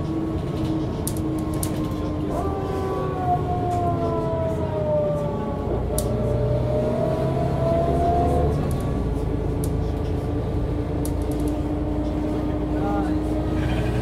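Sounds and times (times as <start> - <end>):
bus drivetrain whine: 0.0 - 14.0
heavy engine drone: 0.0 - 14.0.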